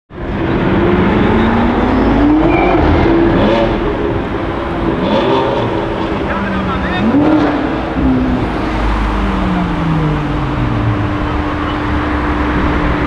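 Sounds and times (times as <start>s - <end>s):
car engine accelerating: 0.1s - 13.0s.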